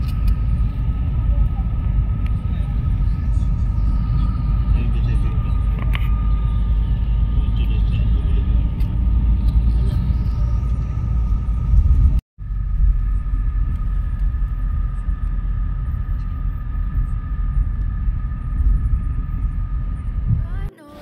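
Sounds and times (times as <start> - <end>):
loud low rumble: 0.0 - 20.7.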